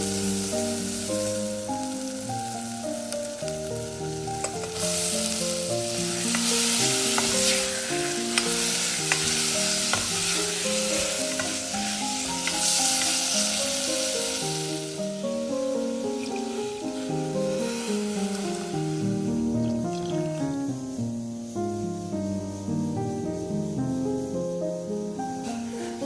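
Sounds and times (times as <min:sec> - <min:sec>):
food sizzling in oil: 0:00.0 - 0:21.7, 0:23.4 - 0:26.0.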